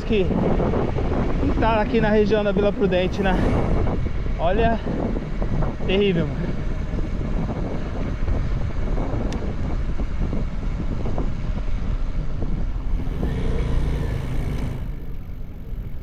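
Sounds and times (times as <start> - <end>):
low rumble of passing vehicles: 0.0 - 16.0.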